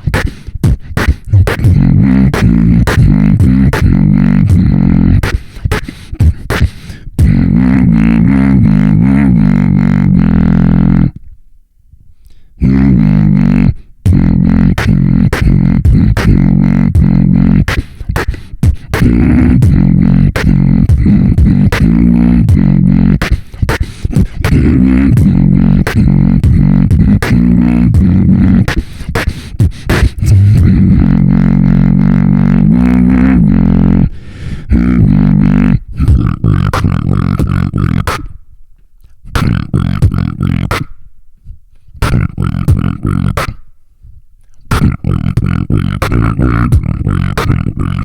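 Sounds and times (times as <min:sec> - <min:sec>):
beatboxing: 0:00.0 - 0:11.3, 0:12.2 - 0:38.4, 0:39.0 - 0:48.0.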